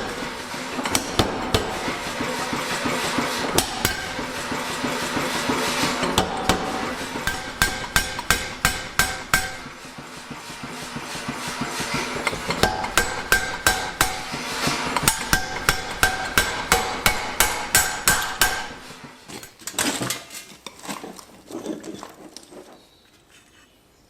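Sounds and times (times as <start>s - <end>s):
hammer beating steel on anvil: 0.0s - 19.6s.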